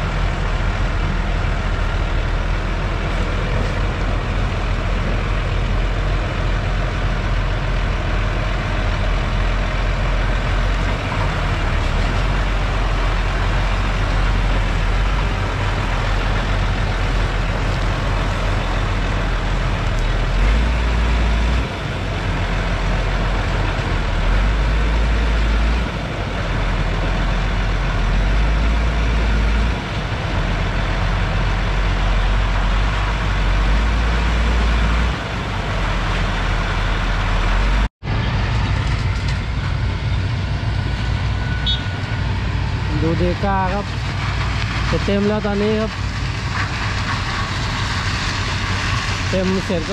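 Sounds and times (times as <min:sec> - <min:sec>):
tractor diesel engine running hard: 0:00.0 - 0:49.9.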